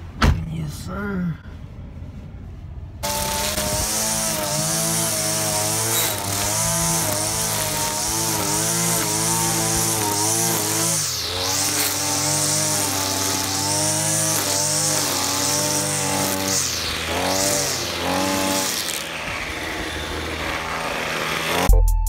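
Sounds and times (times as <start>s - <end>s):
string trimmer engine cutting grass: 3.0s - 21.7s.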